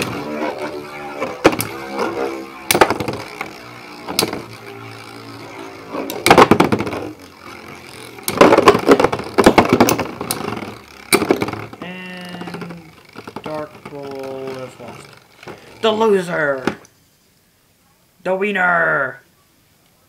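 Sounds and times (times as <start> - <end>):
spinning tops clashing: 0.0 - 16.8
spinning tops whirring: 0.0 - 17.0.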